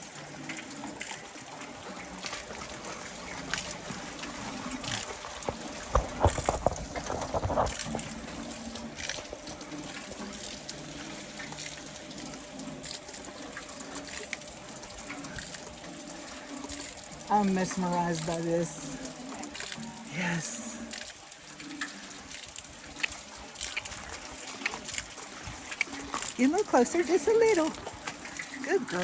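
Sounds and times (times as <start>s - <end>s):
water splashing off water wheel: 0.0s - 29.0s.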